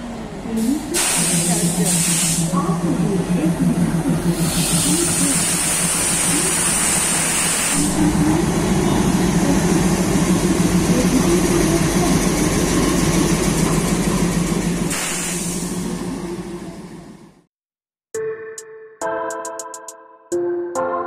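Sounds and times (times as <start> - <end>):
diesel locomotive engine throbbing: 0.0 - 17.5.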